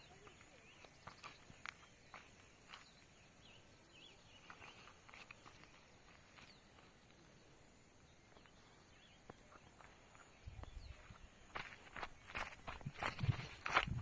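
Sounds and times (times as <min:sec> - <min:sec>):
faint bird chirps: 0:00.0 - 0:13.2.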